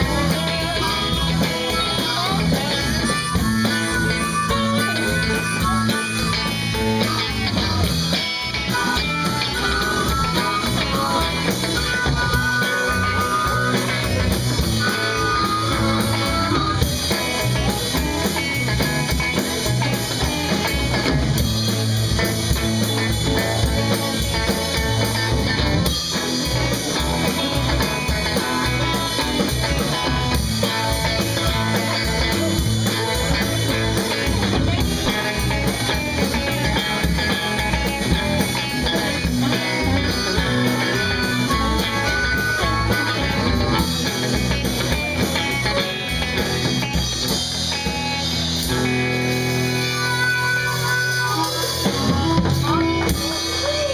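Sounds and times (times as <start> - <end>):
drum kit beat: 0.0 - 53.9
electric guitar: 0.0 - 53.9.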